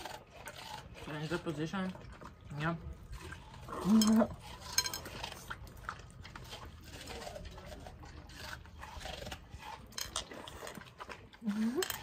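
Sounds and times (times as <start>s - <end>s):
dogs and person chewing watermelon: 0.0s - 12.0s.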